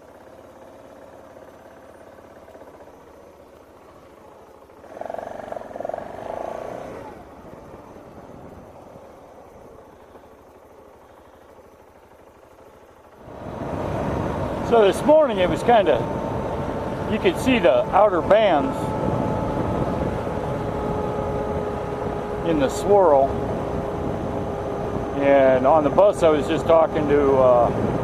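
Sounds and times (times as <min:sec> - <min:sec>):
distant traffic: 0:00.0 - 0:28.0
passing vehicle with tonal whine: 0:00.0 - 0:28.0.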